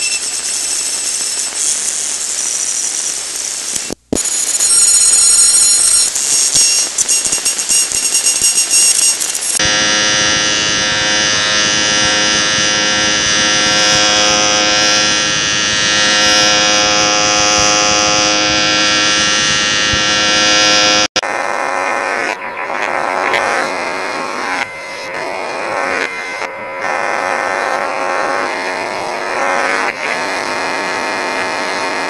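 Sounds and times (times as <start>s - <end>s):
electronic buzzing drone: 0.0s - 32.0s.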